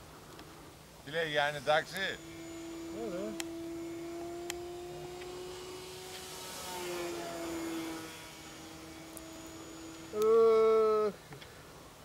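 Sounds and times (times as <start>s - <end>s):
model airplane propeller drone: 1.2s - 11.1s.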